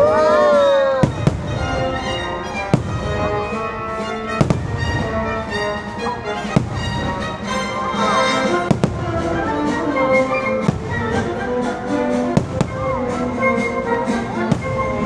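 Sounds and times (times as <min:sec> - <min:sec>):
fireworks bangs: 0:00.0 - 0:15.0
orchestral music: 0:00.0 - 0:15.0.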